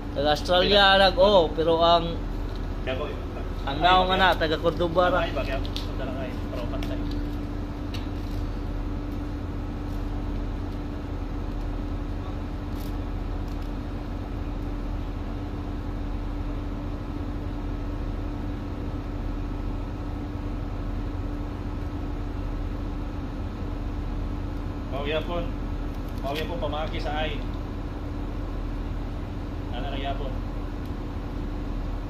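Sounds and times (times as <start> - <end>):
ship machinery drone: 0.0 - 32.0.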